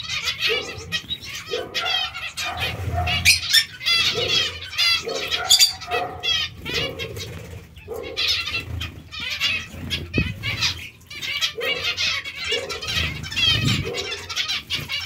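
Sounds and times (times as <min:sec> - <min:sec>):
finches calling: 0:00.0 - 0:15.0.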